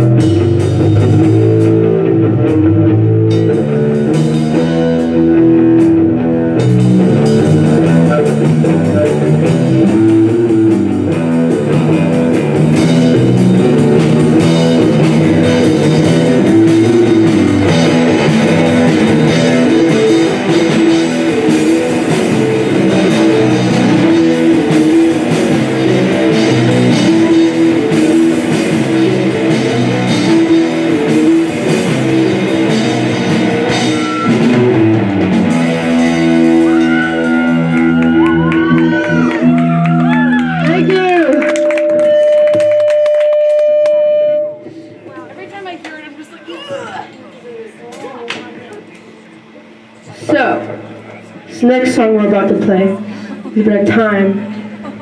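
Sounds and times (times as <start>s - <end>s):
rock band playing: 0.0s - 47.2s.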